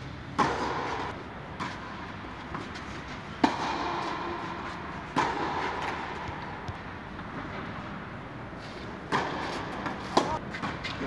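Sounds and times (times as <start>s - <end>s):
tennis balls hit by rackets: 0.0s - 8.2s, 8.9s - 11.0s.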